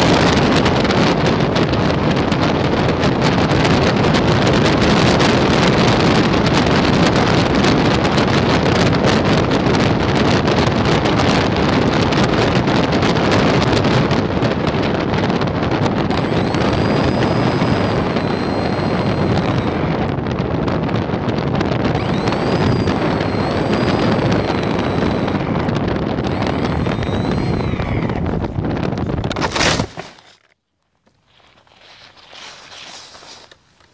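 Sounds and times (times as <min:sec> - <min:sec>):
wind rushing on microphone: 0:00.0 - 0:30.0.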